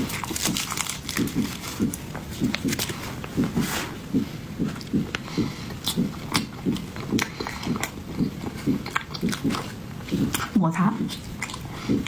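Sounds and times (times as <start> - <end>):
mouth clicks and smacks: 0.0 - 12.0
wet chewing: 0.0 - 12.0.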